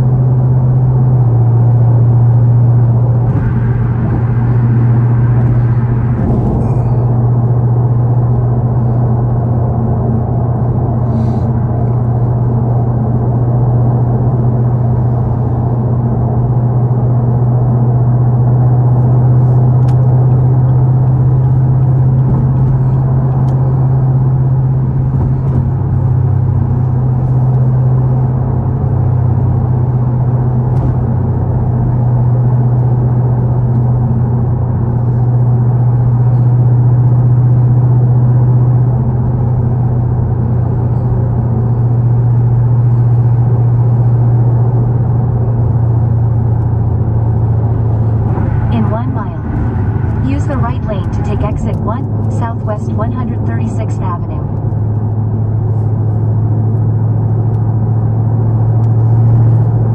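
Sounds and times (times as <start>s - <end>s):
car engine droning: 0.0s - 59.9s
road noise: 0.0s - 59.9s.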